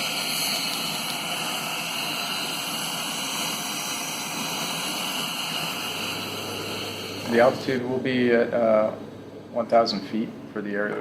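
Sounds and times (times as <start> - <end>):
turboprop engines droning: 0.8 - 11.0.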